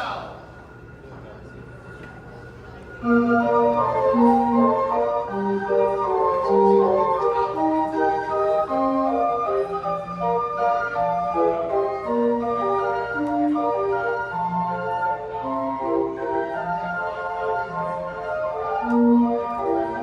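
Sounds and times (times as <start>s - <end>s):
carousel band organ playing: 3.0s - 20.0s.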